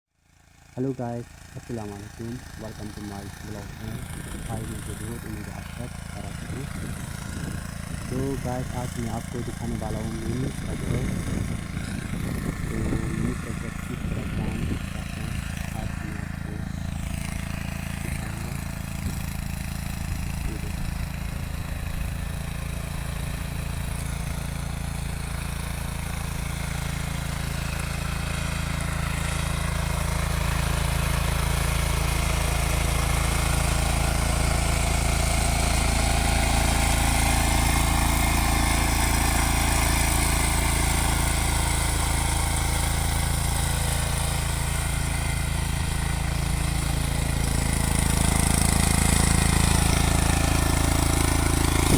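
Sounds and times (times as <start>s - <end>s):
mini tractor engine running: 0.2s - 51.9s.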